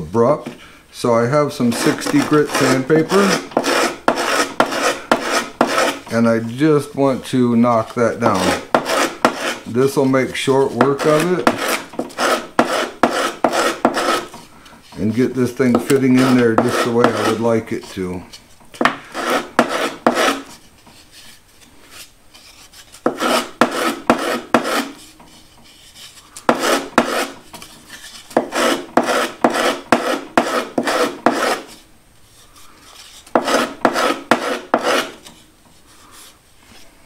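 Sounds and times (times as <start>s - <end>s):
wood rubbed on sandpaper: 1.6s - 14.3s, 14.9s - 17.7s, 19.1s - 21.4s, 22.0s - 31.8s, 32.9s - 35.2s.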